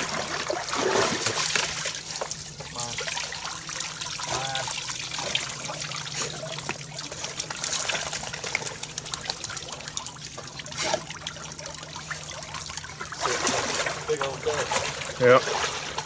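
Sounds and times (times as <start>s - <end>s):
water trickling and splashing: 0.0s - 16.0s
water dripping: 0.1s - 15.2s.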